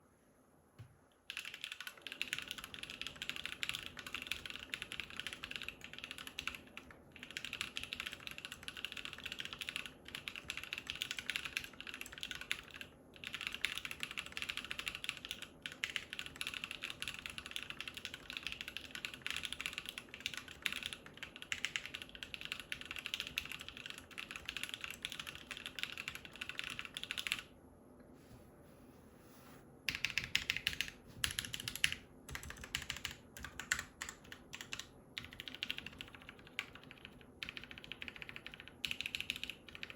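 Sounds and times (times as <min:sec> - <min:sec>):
mechanical keyboard typing: 0:01.3 - 0:27.5, 0:29.9 - 0:39.9.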